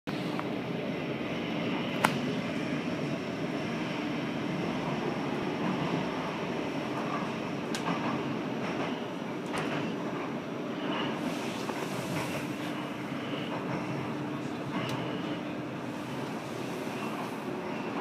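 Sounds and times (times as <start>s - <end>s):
light-rail car running rumble: 0.1s - 18.0s.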